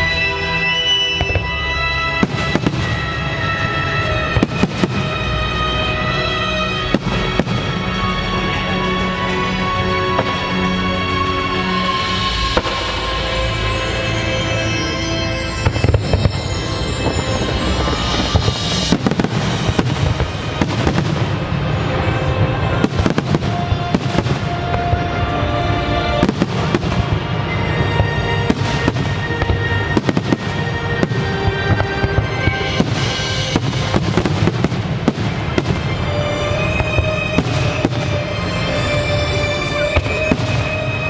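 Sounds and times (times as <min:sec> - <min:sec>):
fireworks bangs and crackling: 0:00.0 - 0:41.0
loud music with held notes: 0:00.0 - 0:41.0.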